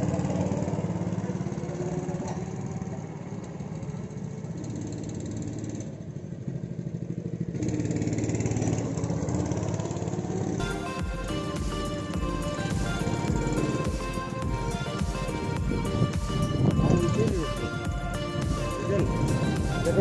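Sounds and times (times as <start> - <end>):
go-kart engines running: 0.0 - 20.0.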